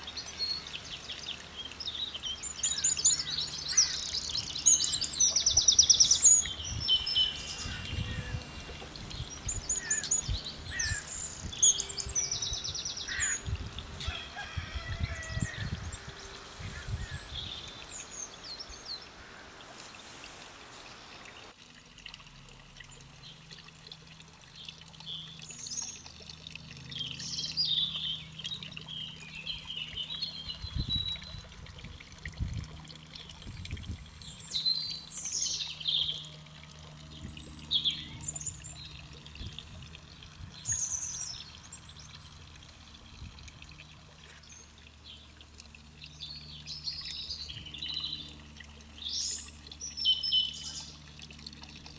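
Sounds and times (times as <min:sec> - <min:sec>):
songbirds singing: 0:00.0 - 0:21.5, 0:24.5 - 0:51.9.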